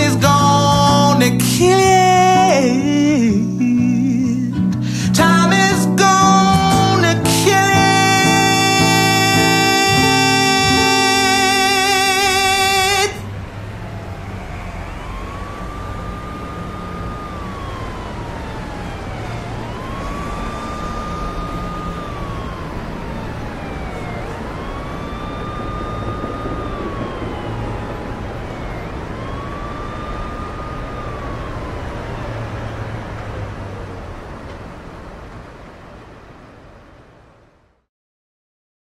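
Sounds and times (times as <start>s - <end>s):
emergency siren wailing: 0.0s - 37.7s
city traffic rumble: 0.0s - 37.8s.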